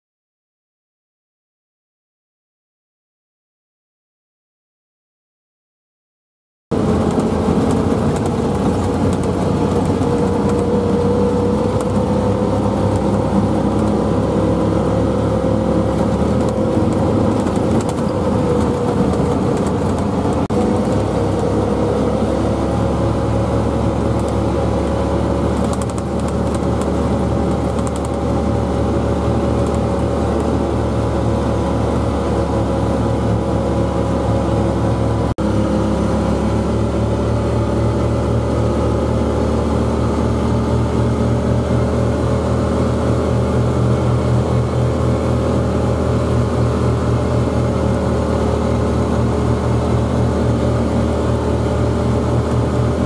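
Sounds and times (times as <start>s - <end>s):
drive whine: 6.7s - 53.0s
tracked vehicle engine humming: 6.7s - 53.0s.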